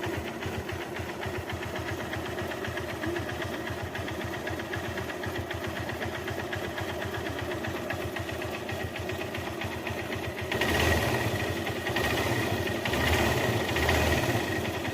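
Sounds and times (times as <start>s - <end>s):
motorcycle engine idling and revving: 0.0s - 14.9s
rapid engine ticking: 0.0s - 14.9s.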